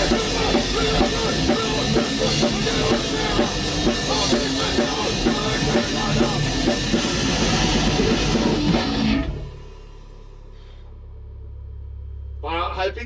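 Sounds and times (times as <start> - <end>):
metal band playing: 0.0 - 10.7.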